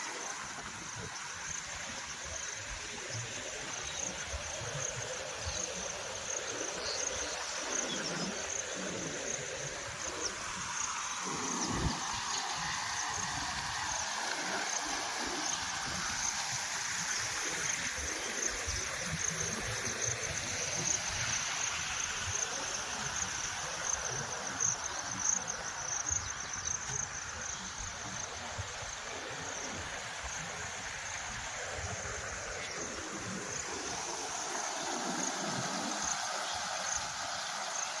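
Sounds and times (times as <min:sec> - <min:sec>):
high-pitched insect trill: 0:00.0 - 0:38.0
rushing floodwater: 0:00.0 - 0:38.0.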